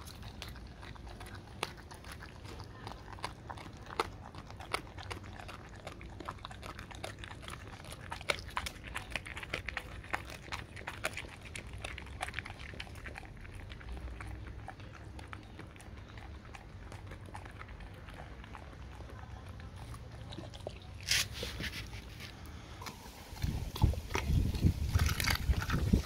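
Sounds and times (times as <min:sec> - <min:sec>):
dog crunching fish: 0:00.0 - 0:26.0.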